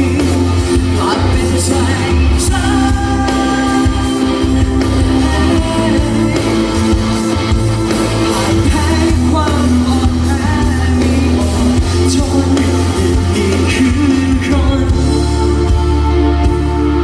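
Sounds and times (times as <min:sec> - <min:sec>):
band playing pop song: 0:00.0 - 0:17.0
person singing: 0:00.0 - 0:17.0.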